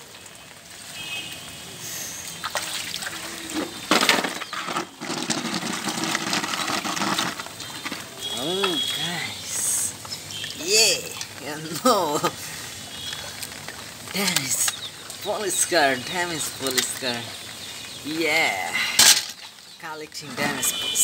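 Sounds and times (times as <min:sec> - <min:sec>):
rain on concrete: 0:00.0 - 0:21.0.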